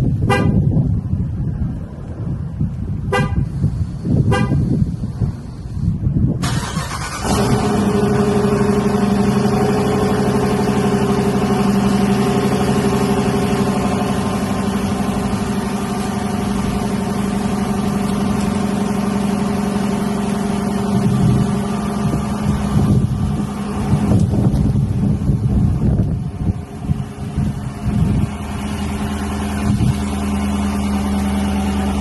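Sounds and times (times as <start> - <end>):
car engine idling: 2.1 - 32.0.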